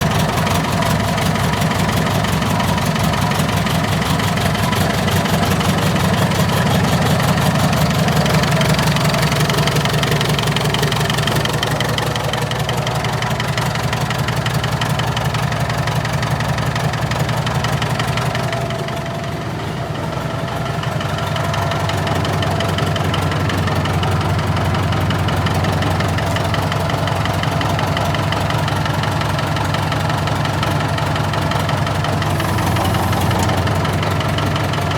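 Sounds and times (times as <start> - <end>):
tractor engine idling: 0.0 - 34.9.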